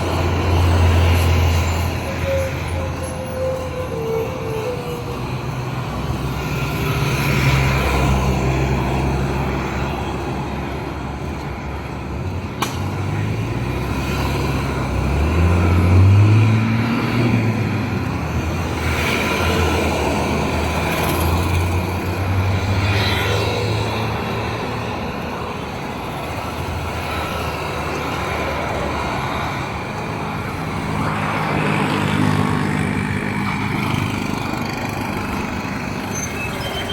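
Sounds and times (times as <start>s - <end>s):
vehicles passing: 0.0s - 36.9s.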